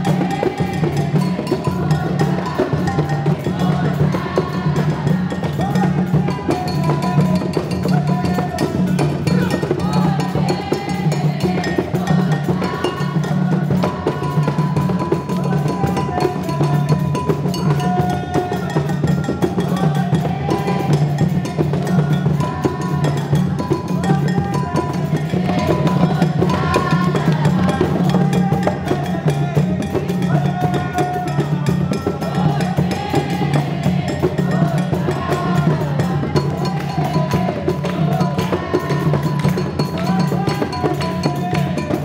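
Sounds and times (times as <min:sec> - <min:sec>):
drums and percussion beat: 0:00.0 - 0:42.0.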